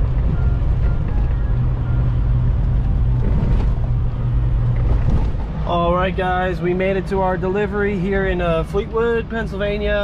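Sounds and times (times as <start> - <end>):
road noise inside cab: 0.0 - 10.0
truck diesel engine drone: 0.0 - 10.0.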